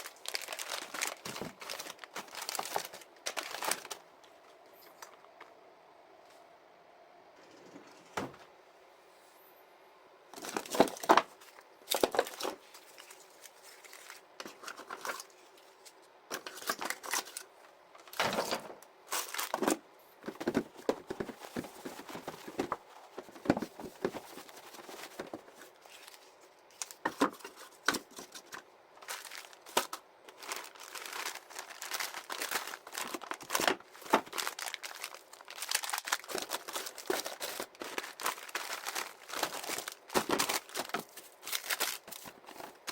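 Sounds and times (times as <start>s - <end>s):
plastic packaging crinkling: 0.0s - 5.5s, 10.3s - 17.5s, 18.1s - 42.9s.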